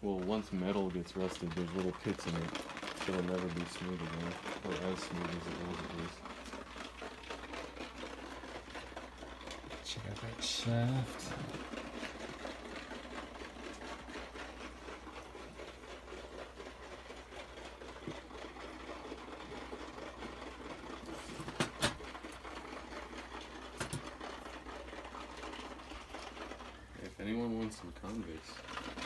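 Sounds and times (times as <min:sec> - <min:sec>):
small electric motor rattling and ticking: 0:00.0 - 0:29.0.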